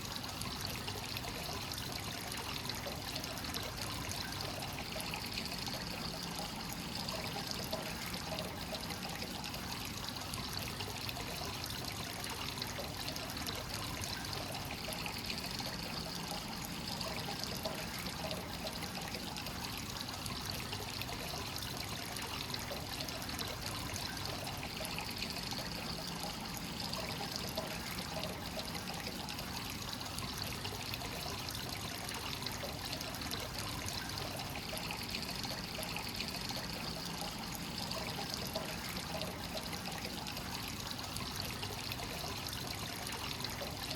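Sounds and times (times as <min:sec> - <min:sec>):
water pouring into a bath: 0:00.0 - 0:43.9.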